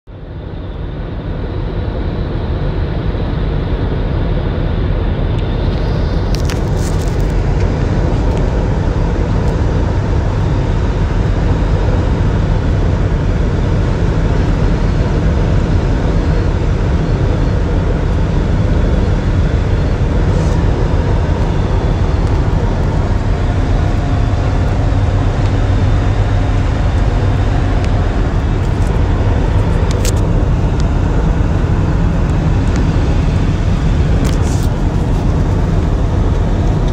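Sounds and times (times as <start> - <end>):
car engine drone: 0.1 - 36.9
tyre and wind noise: 4.9 - 36.9.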